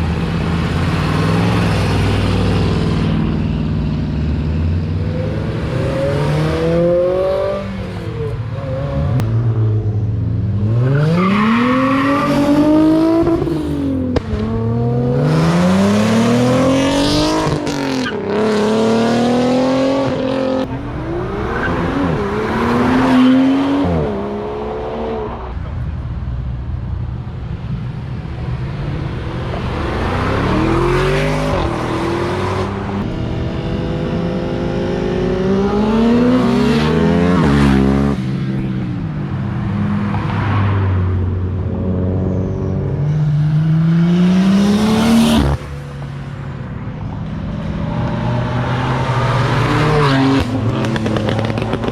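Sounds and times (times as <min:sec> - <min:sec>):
cars accelerating hard: 0:04.3 - 0:25.8, 0:28.6 - 0:46.2, 0:47.0 - 0:51.9.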